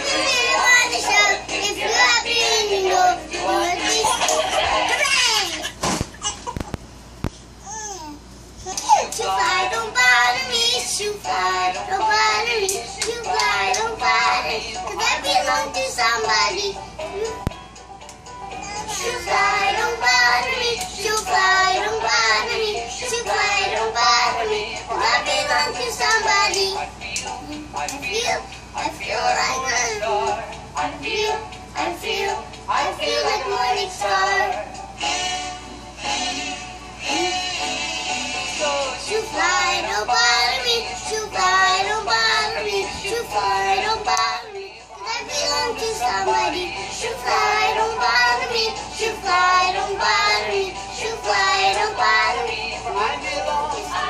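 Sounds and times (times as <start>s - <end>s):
girl singing: 0.0s - 5.6s, 8.8s - 17.5s, 18.6s - 34.6s, 38.9s - 54.0s.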